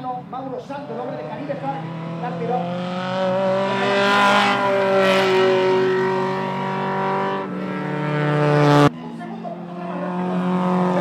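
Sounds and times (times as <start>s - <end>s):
race car engine running hard: 0.1s - 11.0s.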